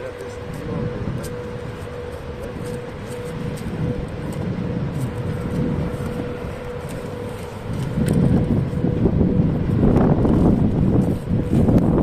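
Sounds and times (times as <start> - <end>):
electric locomotive passing: 0.0 - 12.0.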